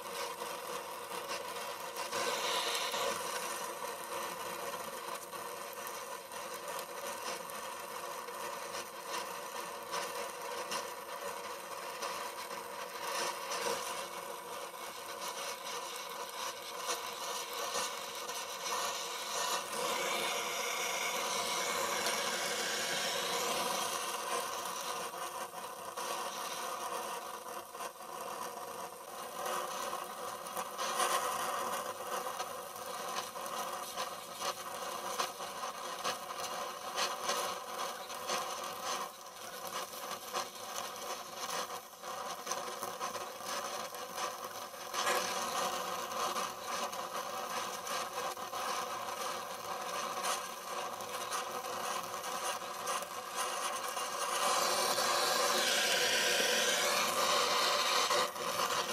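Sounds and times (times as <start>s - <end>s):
gas torch flame hissing: 0.0s - 58.9s
welding crackles: 0.0s - 58.9s.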